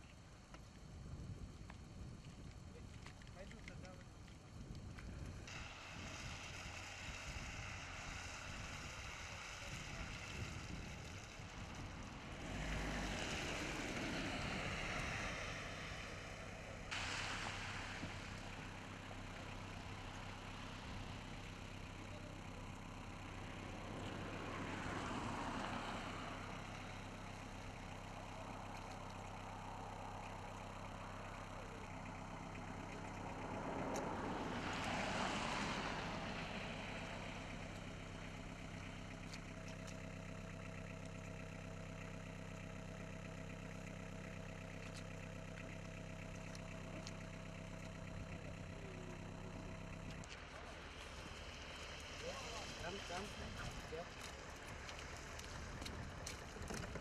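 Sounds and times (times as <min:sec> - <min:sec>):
passing traffic: 0:00.0 - 0:57.0
vehicle engines idling: 0:00.0 - 0:57.0.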